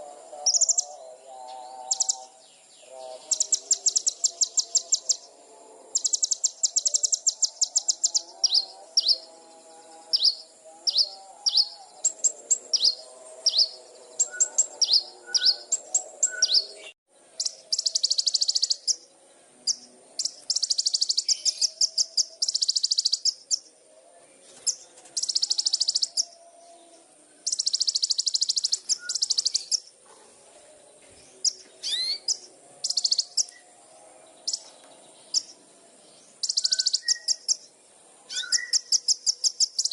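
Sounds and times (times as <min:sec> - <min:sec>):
songbird singing rapid trills: 0:00.0 - 0:39.9.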